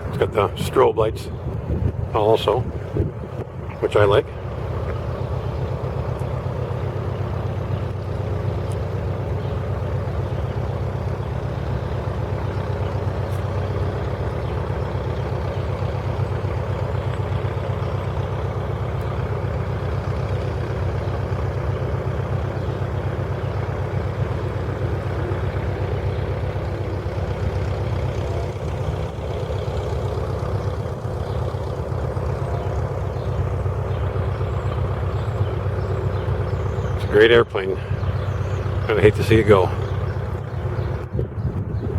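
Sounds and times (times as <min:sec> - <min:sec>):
low pulsing engine drone: 0:00.0 - 0:41.9.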